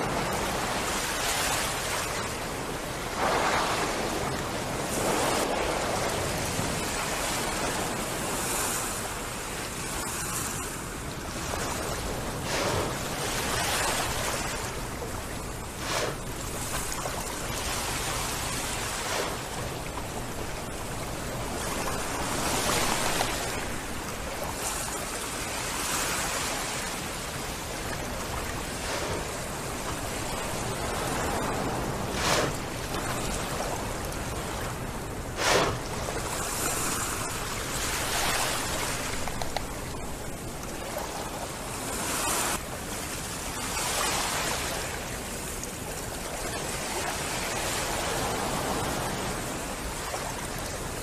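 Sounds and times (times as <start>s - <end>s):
small waves washing on shore: 0.0s - 51.0s
water splashes: 0.0s - 51.0s.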